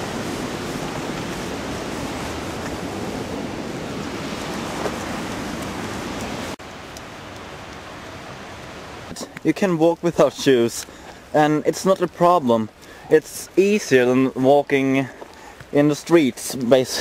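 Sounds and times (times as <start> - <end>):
river water rushing: 0.0 - 14.1.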